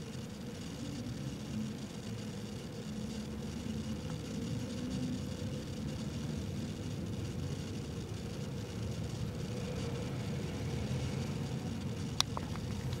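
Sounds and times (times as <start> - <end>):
faint constant hum: 0.0 - 13.0
faint ticks: 0.1 - 10.2, 11.0 - 13.0.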